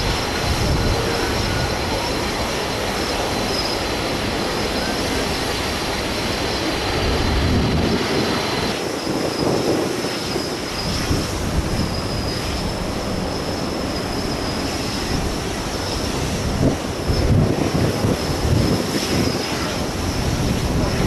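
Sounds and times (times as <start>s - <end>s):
jet engines roaring: 0.0s - 21.0s
wind buffeting microphone: 0.0s - 21.0s.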